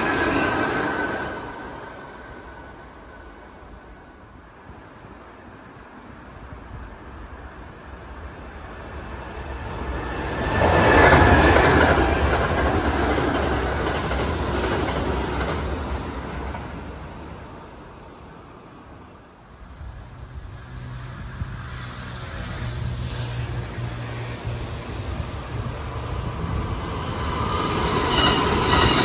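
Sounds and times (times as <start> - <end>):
approaching train low hum: 0.0 - 29.0
electric train passing: 0.0 - 29.0.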